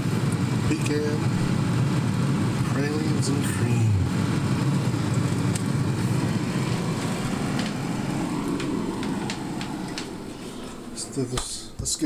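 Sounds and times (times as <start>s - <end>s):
freezer humming: 0.0s - 12.0s.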